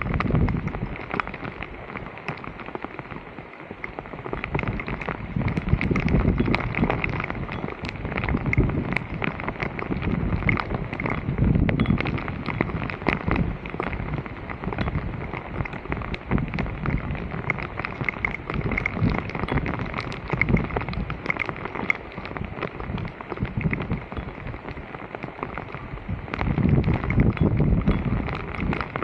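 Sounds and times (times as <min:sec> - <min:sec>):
small clicks: 0:00.0 - 0:29.0.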